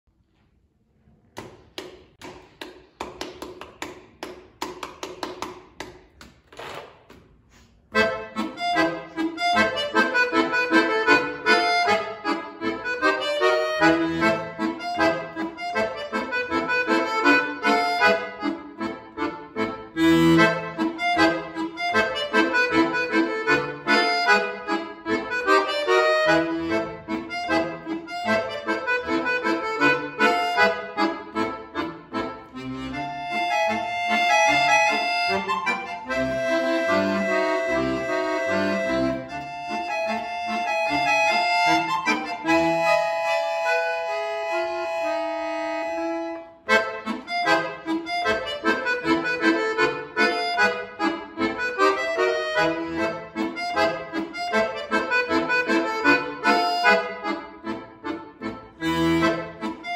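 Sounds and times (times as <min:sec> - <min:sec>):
button accordion playing: 0:07.9 - 0:59.9.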